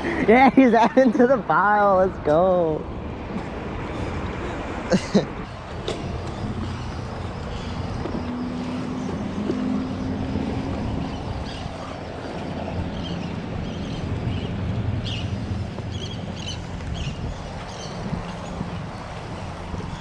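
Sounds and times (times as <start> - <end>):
wind on microphone: 2.8 - 20.0.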